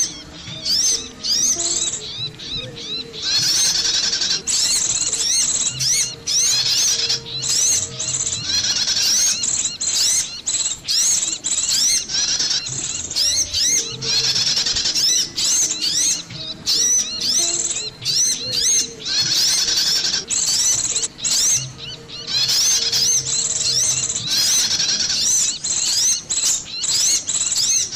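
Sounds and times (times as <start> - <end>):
songbirds chirping and whistling: 0.0 - 27.9.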